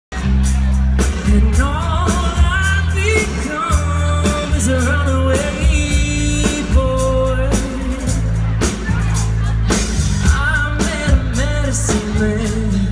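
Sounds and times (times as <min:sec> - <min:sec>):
bass notes: 0:00.1 - 0:12.9
guitar: 0:00.1 - 0:12.9
steady drum beat: 0:00.1 - 0:12.9
person singing lead vocal: 0:00.2 - 0:12.9.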